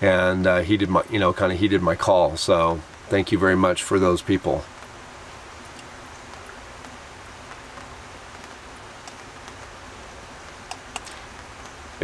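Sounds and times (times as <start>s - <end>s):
soft outdoor hiss: 0.0s - 12.0s.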